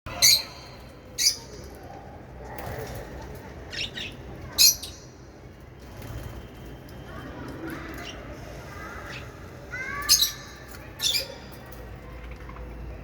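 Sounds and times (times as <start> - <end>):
birds chirping high-pitched: 0.1 - 13.0.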